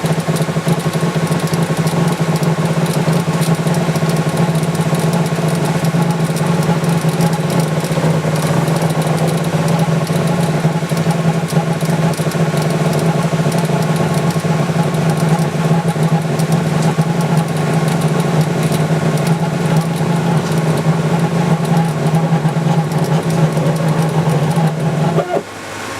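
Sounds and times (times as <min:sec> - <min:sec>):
laser engraving machine humming: 0:00.9 - 0:25.5.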